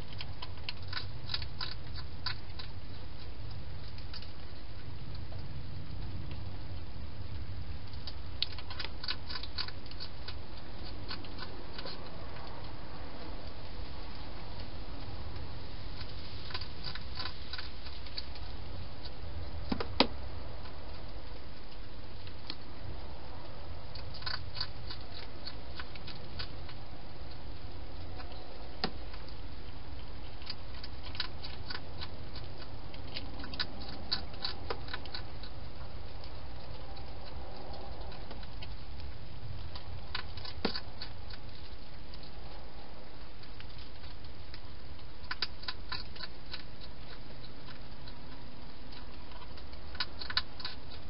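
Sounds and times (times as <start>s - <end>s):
hedgehog chewing crunchily: 0.0s - 51.0s.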